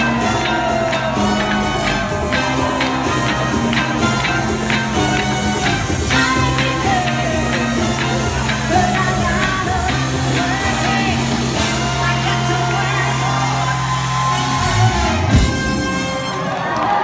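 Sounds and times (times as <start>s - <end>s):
electro-swing band playing: 0.0s - 17.0s.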